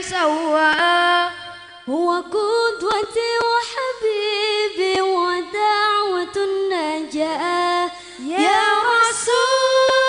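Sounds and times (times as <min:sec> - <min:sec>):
high voice singing unaccompanied: 0:00.0 - 0:10.0.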